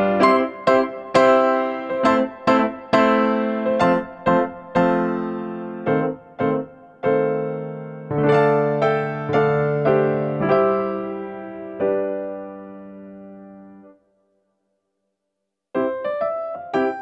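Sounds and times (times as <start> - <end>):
slow piano melody: 0.0 - 14.3, 15.7 - 17.0.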